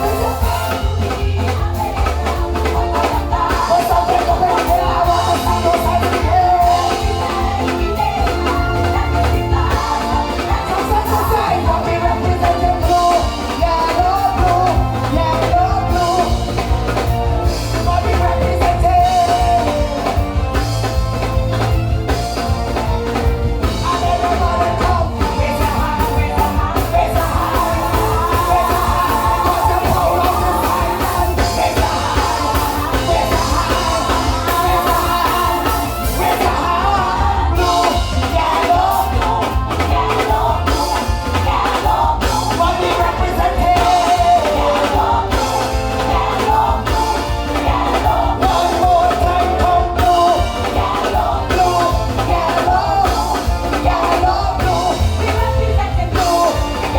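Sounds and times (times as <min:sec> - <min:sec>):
heavy pulsing bass: 0:00.0 - 0:56.9
live band music through pa: 0:00.0 - 0:56.9
person singing: 0:00.0 - 0:56.9.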